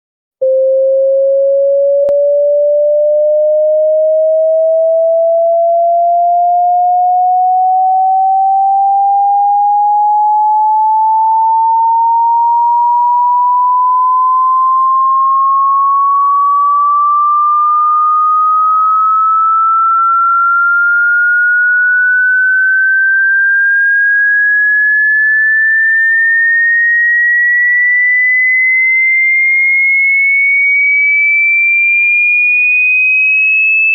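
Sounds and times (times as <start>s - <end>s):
rising sine tone sweep: 0.4s - 29.2s.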